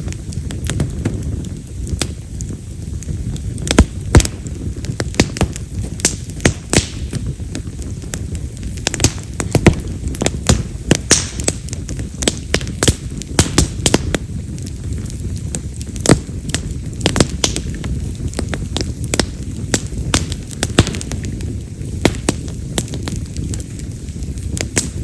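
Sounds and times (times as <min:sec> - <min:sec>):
firewood crackling and popping: 0:00.0 - 0:25.0
flame rumble: 0:00.0 - 0:25.0.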